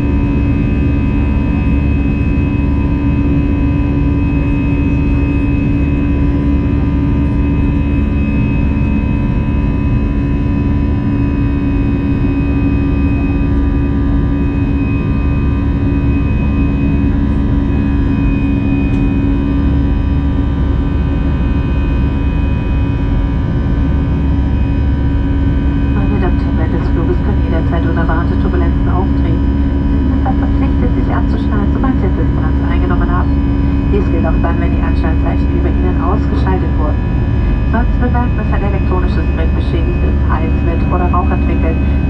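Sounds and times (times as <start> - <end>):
constant whining tones: 0.0 - 42.0
jet engine cabin drone: 0.0 - 42.0.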